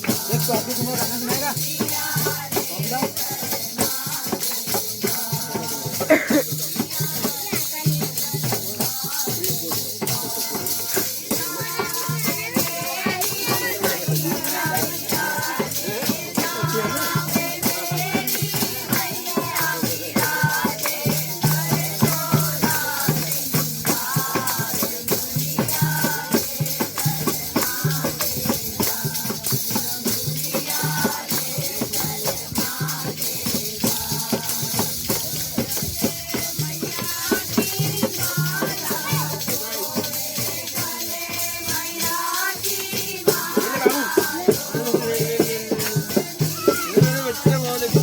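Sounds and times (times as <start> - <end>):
jingling hand percussion: 0.0 - 48.0
women's group singing: 0.0 - 48.0.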